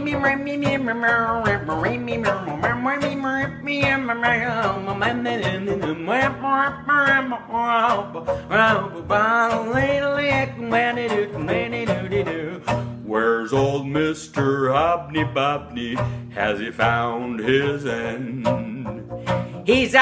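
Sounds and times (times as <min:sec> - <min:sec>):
bowed cello blues tune: 0:00.0 - 0:20.0
person vocalizing wordlessly: 0:00.0 - 0:20.0.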